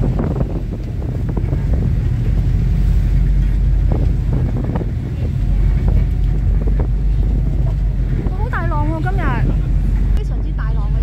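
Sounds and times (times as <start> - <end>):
low rumble: 0.0 - 11.0
wind buffeting microphone: 0.0 - 11.0.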